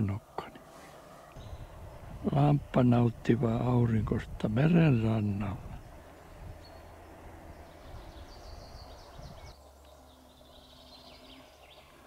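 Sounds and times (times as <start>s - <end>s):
faint songbirds chirping: 0.0s - 12.0s
low background rumble: 0.0s - 12.0s.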